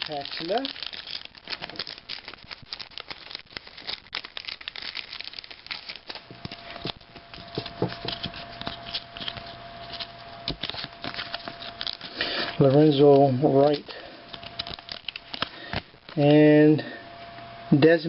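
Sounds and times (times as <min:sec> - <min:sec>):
cards being handled: 0:00.0 - 0:16.2
wrapper tearing and crinkling: 0:00.0 - 0:16.2.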